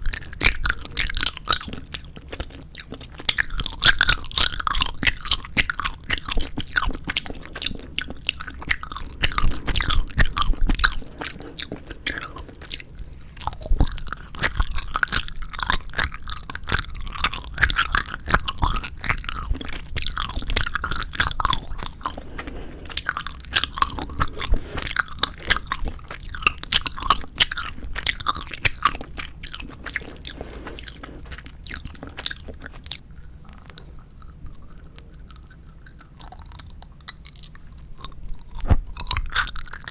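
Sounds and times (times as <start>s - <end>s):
chewing jelly candy: 0.0s - 39.9s.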